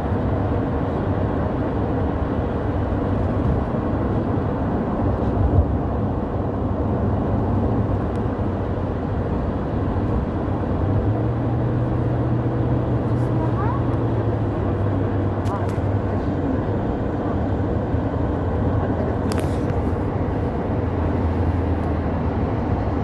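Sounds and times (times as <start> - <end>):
road and engine noise in cabin: 0.0 - 23.0.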